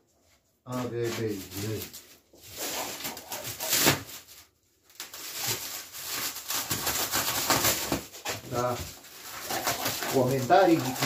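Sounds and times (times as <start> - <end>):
plastic stretch wrap crinkling: 0.7 - 11.0.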